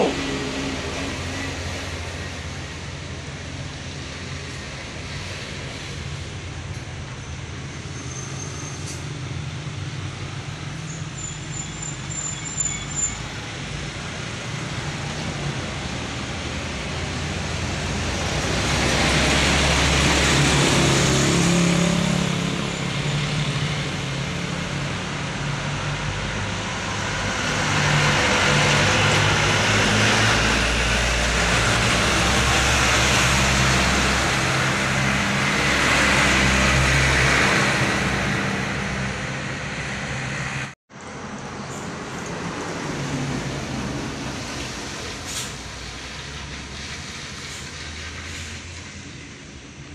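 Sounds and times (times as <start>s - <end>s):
heavy trucks driving past: 0.0s - 49.9s
tyres rushing on road: 0.0s - 49.9s.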